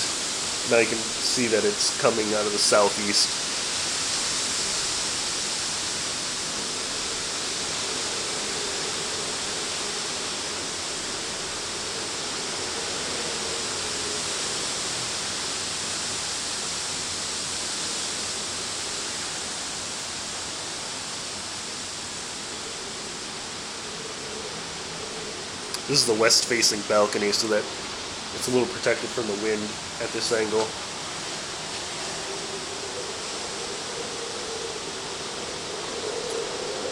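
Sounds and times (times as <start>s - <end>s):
wind rushing through buildings: 0.0s - 36.9s.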